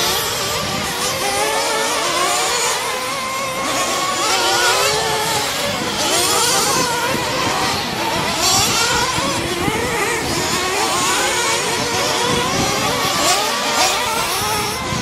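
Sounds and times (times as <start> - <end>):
rc truck motors revving: 0.0 - 15.0.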